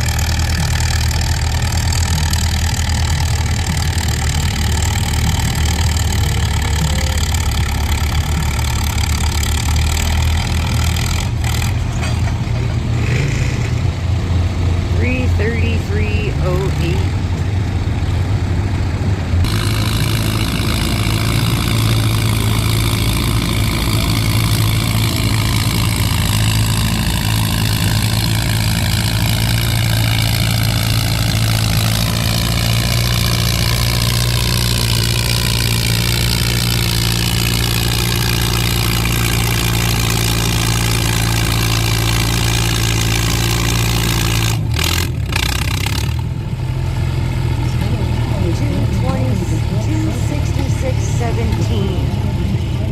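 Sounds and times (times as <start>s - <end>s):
tractor engine under load: 0.0s - 52.9s.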